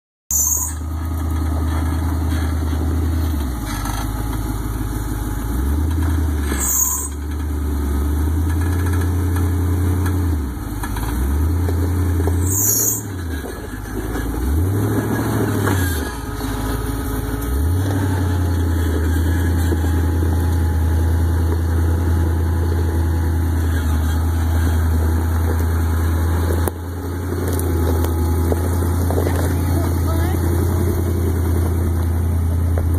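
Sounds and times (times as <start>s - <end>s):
car engine revving at low revs: 0.8s - 32.9s.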